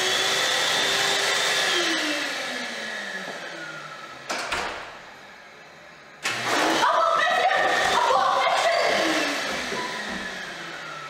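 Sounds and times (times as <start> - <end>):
hand dryer motor: 0.0 - 11.0.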